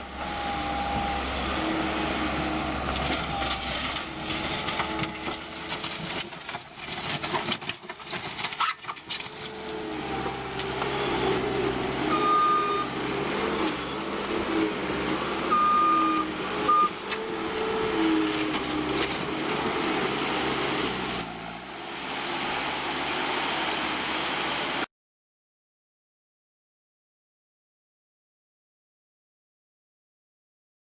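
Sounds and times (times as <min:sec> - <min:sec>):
loader diesel engine running: 0:00.0 - 0:24.8.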